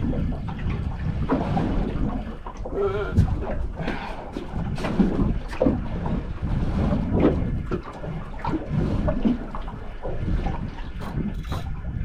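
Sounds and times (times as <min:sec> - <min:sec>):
water sloshing and splashing: 0:00.0 - 0:12.0
wind buffeting microphone: 0:00.0 - 0:12.0.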